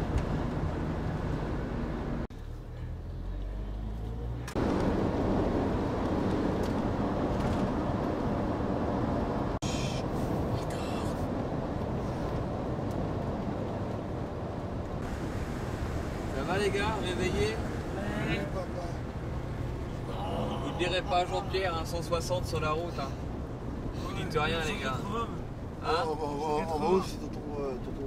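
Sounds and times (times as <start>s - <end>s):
road noise: 0.0s - 28.0s
van engine noise: 0.0s - 28.0s.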